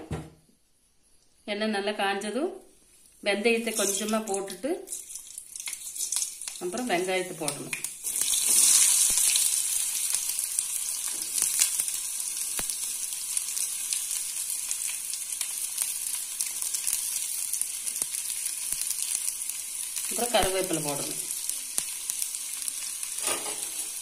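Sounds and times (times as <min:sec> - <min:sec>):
onions sizzling in hot oil: 0:03.6 - 0:24.0.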